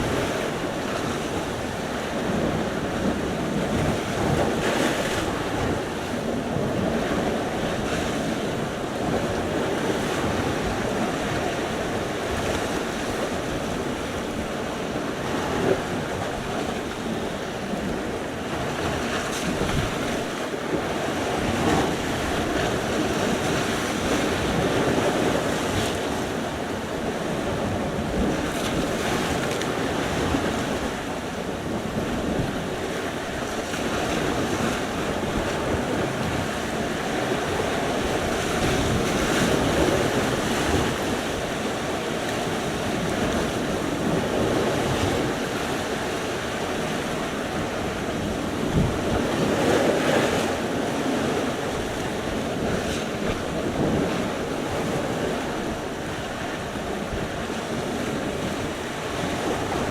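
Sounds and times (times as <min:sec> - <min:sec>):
waves washing onto shore: 0:00.0 - 0:59.9.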